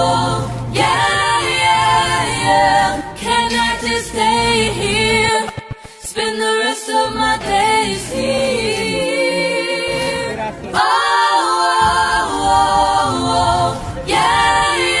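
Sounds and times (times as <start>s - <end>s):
a cappella voices singing: 0.0s - 15.0s.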